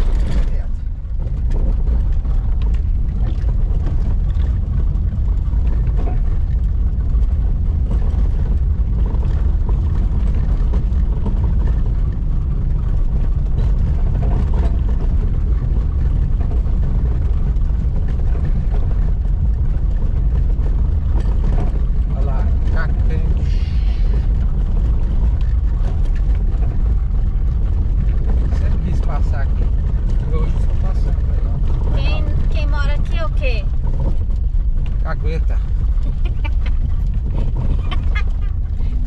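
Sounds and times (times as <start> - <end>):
car engine and road noise: 0.0 - 39.0
faint rattles: 0.0 - 39.0.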